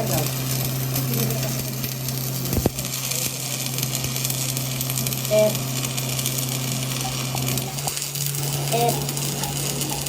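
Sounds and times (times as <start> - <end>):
arc welding crackle: 0.0 - 10.0.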